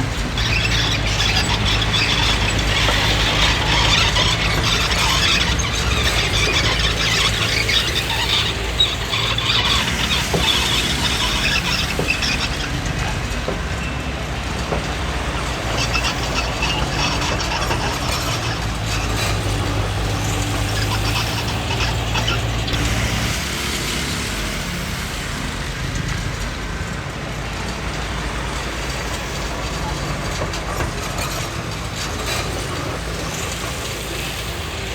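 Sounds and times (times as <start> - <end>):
bulldozer diesel engine running: 0.0 - 34.9
steel tracks squealing and clattering: 0.0 - 34.9.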